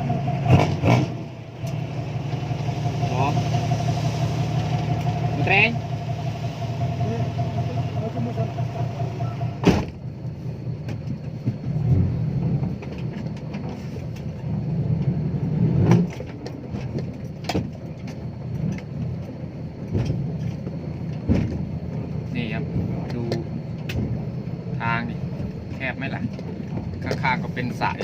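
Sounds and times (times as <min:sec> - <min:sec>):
diesel truck engine rumbling: 0:00.0 - 0:28.0
steady whine: 0:00.0 - 0:28.0.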